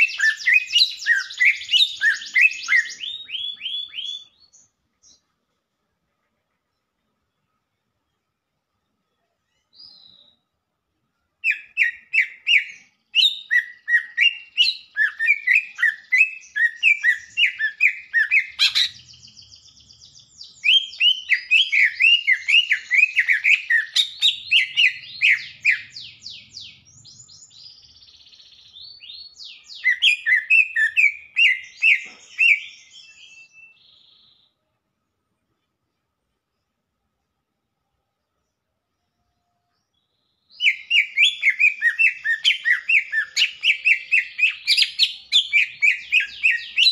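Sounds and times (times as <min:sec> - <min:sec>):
bird chirping and twittering: 0:00.0 - 0:05.3, 0:09.4 - 0:10.5, 0:11.4 - 0:34.6, 0:38.2 - 0:46.9.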